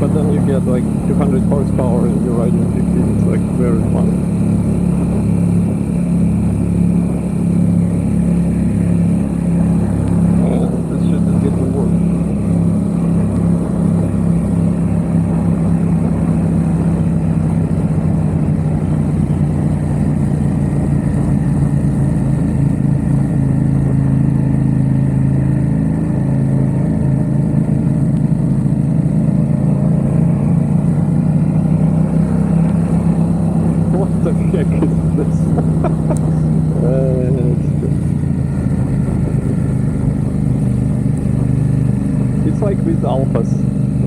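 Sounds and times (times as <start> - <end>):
motorcycle engine cruising: 0.0 - 44.0.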